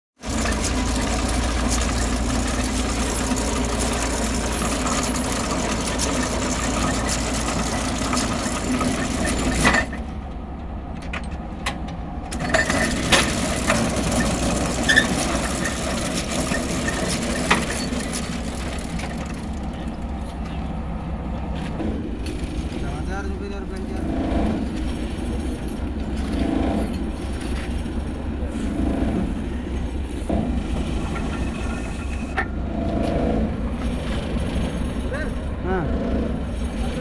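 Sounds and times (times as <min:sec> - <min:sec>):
drilling rig engine hum: 0:00.2 - 0:37.0.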